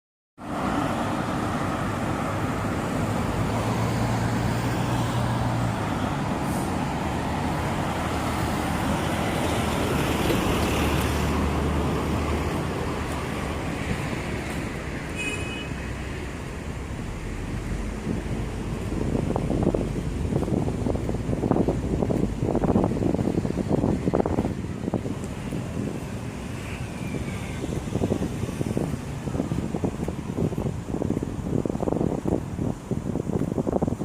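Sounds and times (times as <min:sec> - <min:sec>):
passing buses: 0:00.4 - 0:34.0
passing cars: 0:00.4 - 0:34.0.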